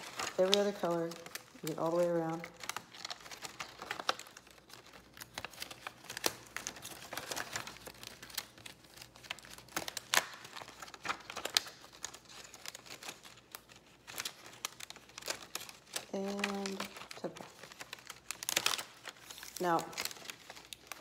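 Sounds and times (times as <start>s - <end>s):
foil crinkling: 0.0s - 21.0s.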